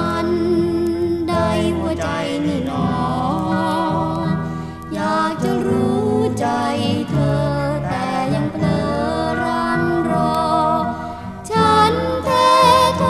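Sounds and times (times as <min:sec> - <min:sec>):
pop song from vinyl record: 0:00.0 - 0:13.0.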